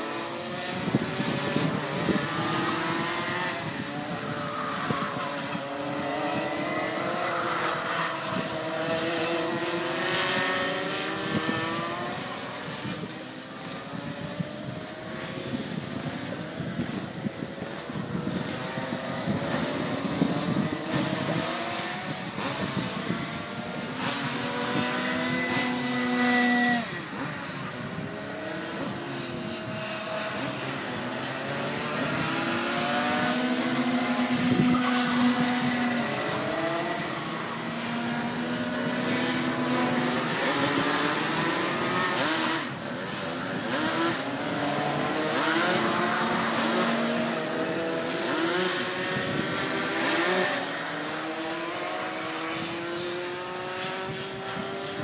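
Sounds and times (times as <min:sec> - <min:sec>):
kart engines racing: 0:00.0 - 0:55.0.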